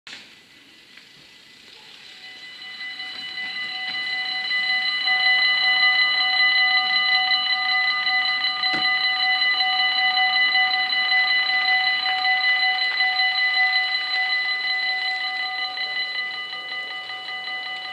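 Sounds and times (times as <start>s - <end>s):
level crossing warning bells: 1.6s - 17.9s.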